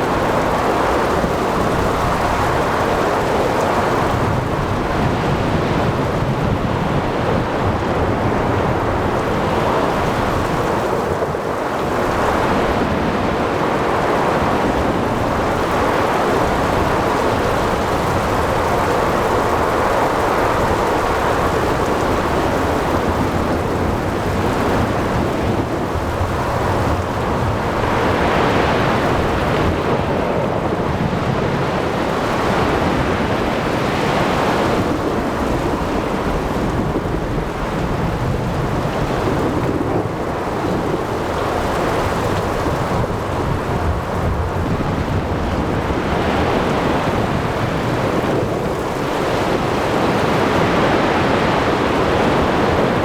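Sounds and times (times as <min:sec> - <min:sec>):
steady rain: 0:00.0 - 0:53.0
waves: 0:00.0 - 0:53.0
wind: 0:00.0 - 0:53.0.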